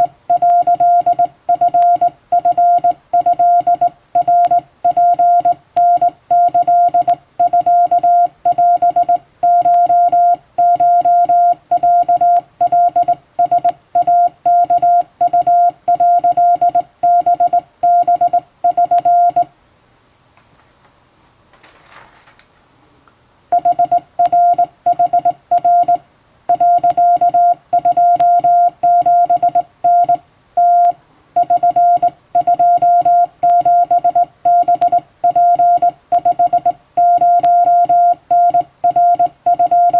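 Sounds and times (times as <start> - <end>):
morse code beeping: 0.0 - 19.5, 23.5 - 39.9.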